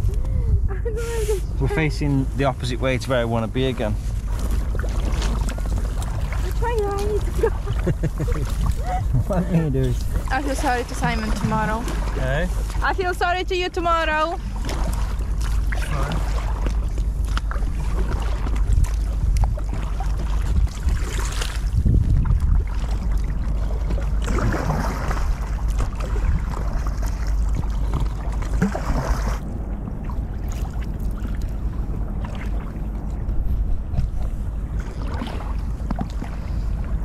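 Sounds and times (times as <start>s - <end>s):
water around a kayak: 0.0s - 37.0s
wind rumbling on microphone: 0.0s - 37.0s.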